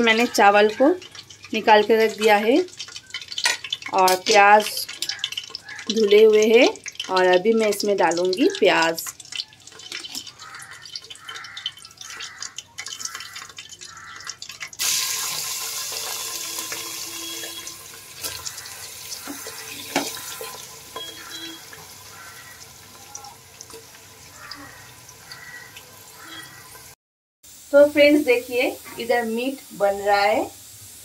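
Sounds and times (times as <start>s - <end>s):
onions sizzling in hot oil: 0.0s - 31.0s
spices crackling in oil: 0.0s - 31.0s.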